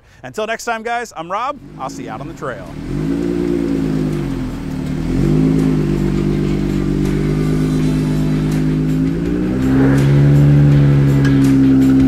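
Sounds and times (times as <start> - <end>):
engine running under load: 1.6 - 12.0.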